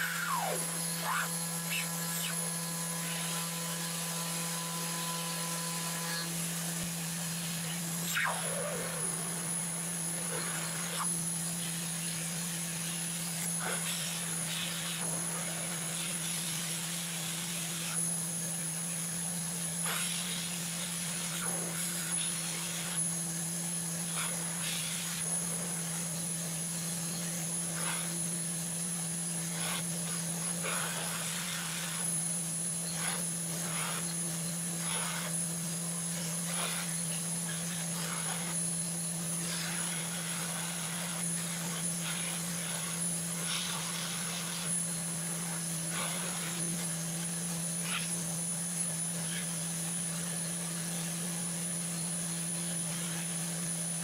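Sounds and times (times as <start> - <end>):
router spindle whining: 0.0 - 54.0
stepper motors whirring: 0.0 - 54.0.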